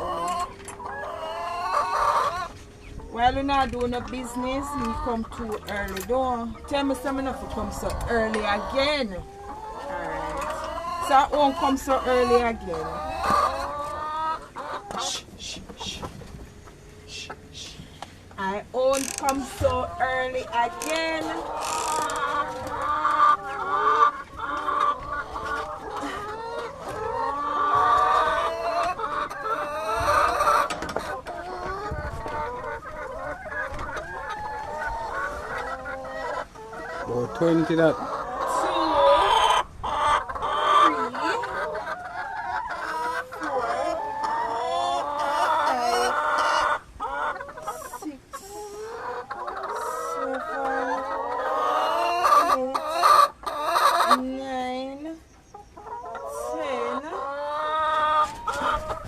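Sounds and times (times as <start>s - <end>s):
hens clucking: 0.0s - 59.0s.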